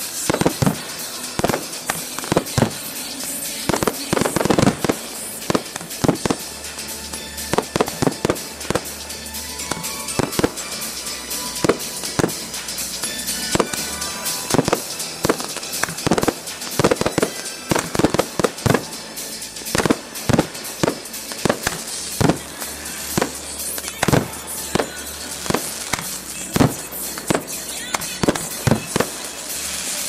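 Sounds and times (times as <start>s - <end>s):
fireworks bangs: 0.0s - 30.0s
fireworks crackling and hissing: 0.0s - 30.0s.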